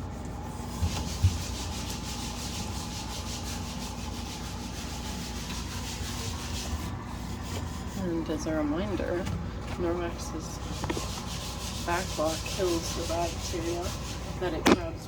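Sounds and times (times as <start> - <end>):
cloth scrubbing a surface: 0.0 - 15.0.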